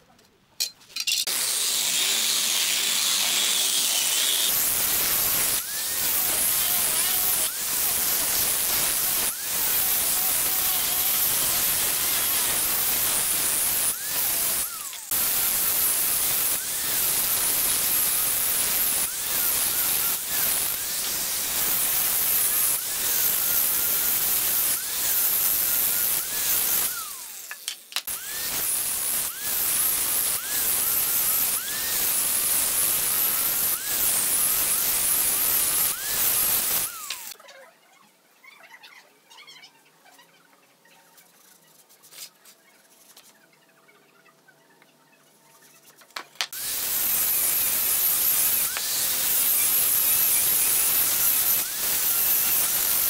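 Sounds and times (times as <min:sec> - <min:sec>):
angle grinder sanding wood: 0:01.3 - 0:37.4, 0:46.5 - 0:53.0.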